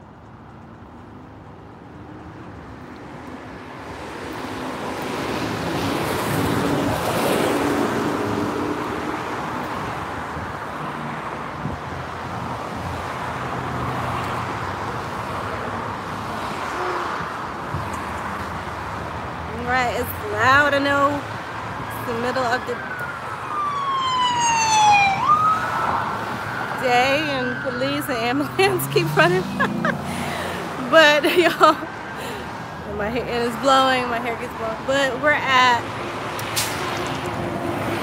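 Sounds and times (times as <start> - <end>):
highway traffic: 0.0 - 38.0
loud vehicle passing: 3.6 - 38.0.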